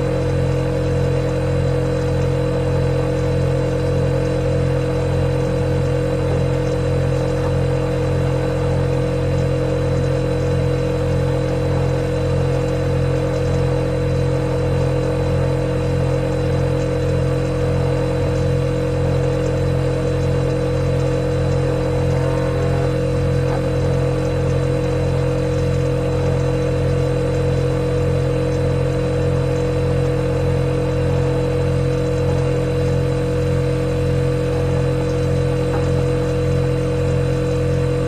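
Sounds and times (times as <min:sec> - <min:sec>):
refrigerator humming: 0:00.0 - 0:38.0.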